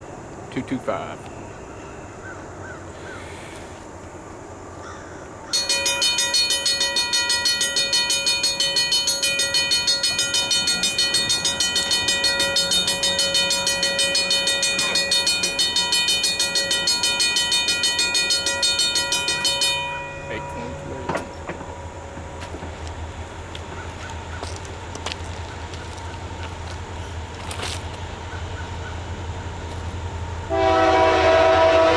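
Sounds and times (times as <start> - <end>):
railroad crossing bell ringing: 5.5 - 31.9.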